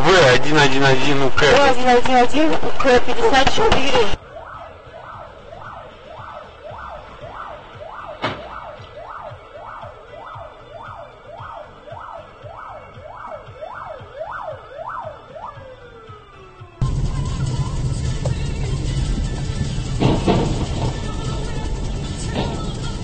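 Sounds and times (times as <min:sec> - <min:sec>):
emergency siren wailing: 0:03.6 - 0:23.0.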